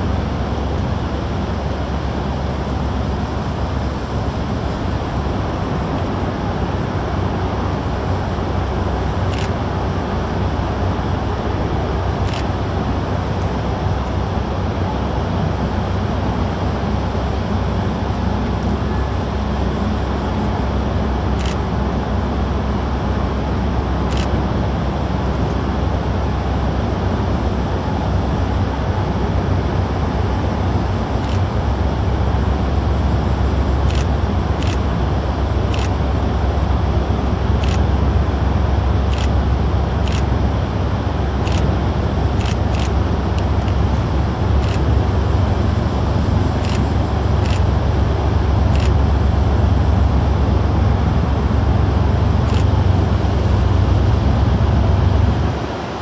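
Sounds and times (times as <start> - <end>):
faint steady hum: 0.0 - 56.0
low rumble of harbourside noise: 0.0 - 56.0.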